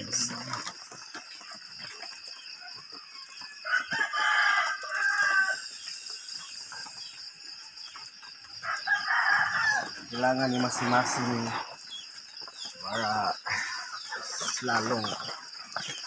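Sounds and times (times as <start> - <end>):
drawn-out animal call: 0.0 - 16.0.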